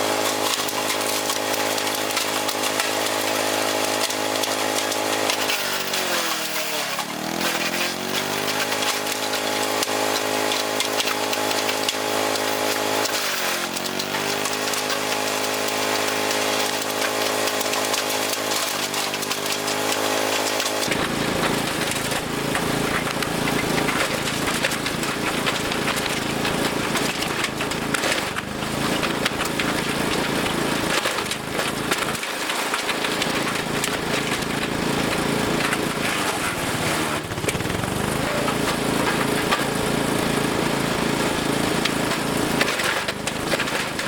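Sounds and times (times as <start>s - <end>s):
branches grinding in chipper: 0.0s - 44.0s
wood chipper engine running: 0.0s - 44.0s
wood cracking and splintering: 0.0s - 44.0s.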